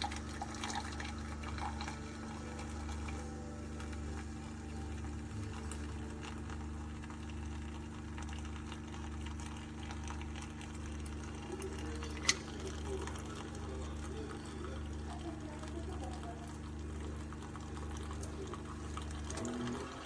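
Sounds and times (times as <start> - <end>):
coffee maker pump humming: 0.0 - 20.0
coffee pouring into cup: 0.0 - 20.0.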